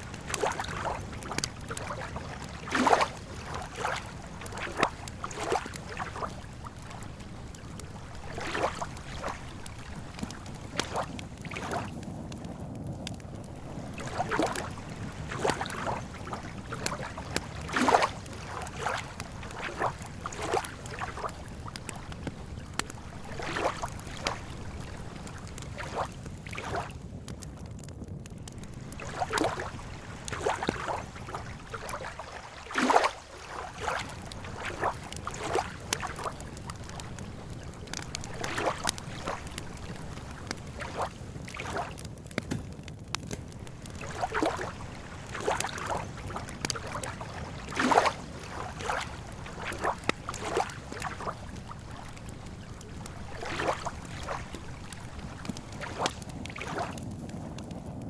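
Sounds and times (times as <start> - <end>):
water lapping: 0.0 - 12.4, 13.0 - 27.0, 28.4 - 42.7, 43.5 - 57.0
campfire crackling: 0.0 - 58.0.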